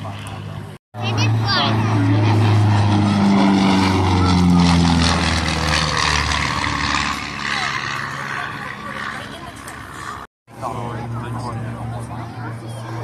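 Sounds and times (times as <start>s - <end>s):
propeller airplane passing overhead: 0.0s - 13.0s.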